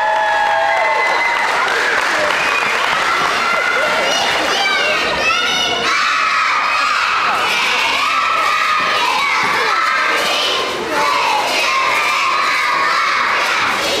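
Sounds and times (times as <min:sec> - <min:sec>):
children shouting and cheering: 0:00.0 - 0:14.0.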